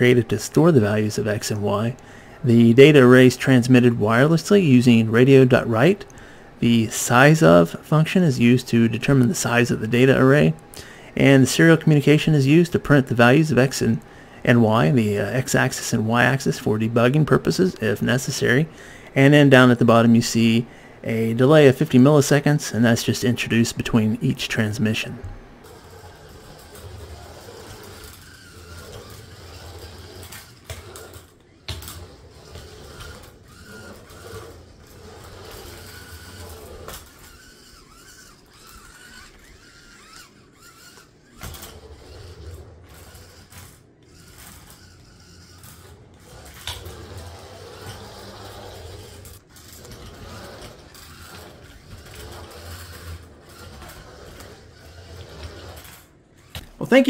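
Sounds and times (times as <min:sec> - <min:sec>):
toy car motors whirring: 0:08.4 - 0:18.7, 0:19.4 - 0:57.0.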